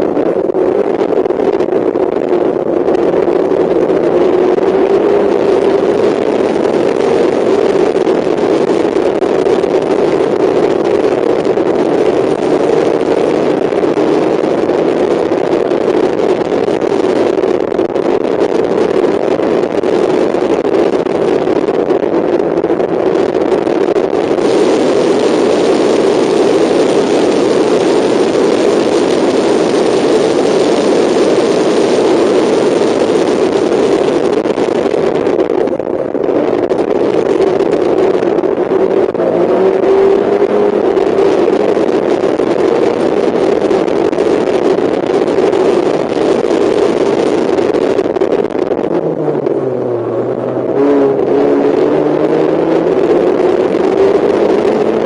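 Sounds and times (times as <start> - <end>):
race car engine at speed: 0.0 - 55.0
wind and tyre noise: 0.0 - 55.0.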